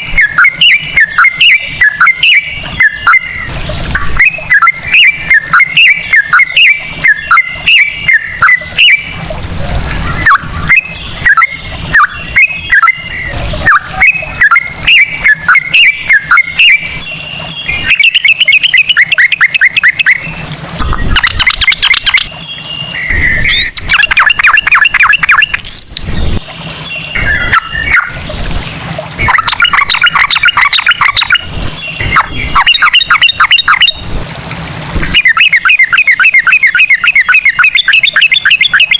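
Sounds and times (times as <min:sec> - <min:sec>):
rising bird whistle: 0:00.0 - 0:09.2, 0:10.0 - 0:26.1, 0:26.8 - 0:28.4, 0:29.2 - 0:34.1, 0:34.9 - 0:38.9
fast bird trills: 0:00.0 - 0:34.2, 0:34.8 - 0:38.9
bulbul singing: 0:00.0 - 0:38.9.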